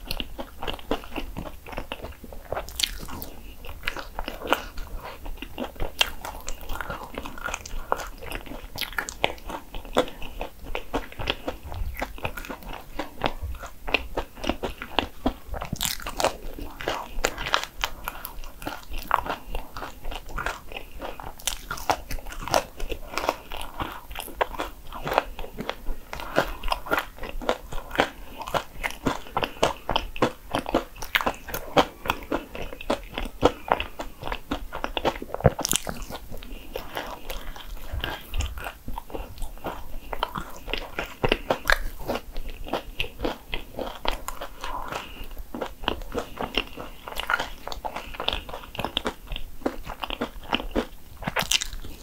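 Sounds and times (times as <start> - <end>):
crunching and chewing waffle: 0.0 - 52.0.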